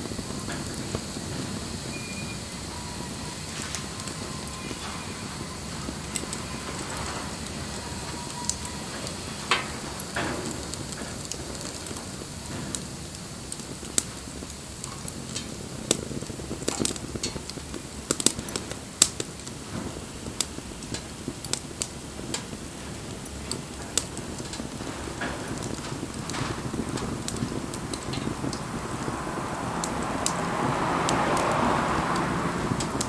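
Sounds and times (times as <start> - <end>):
bonfire crackling and popping: 0.0 - 33.0.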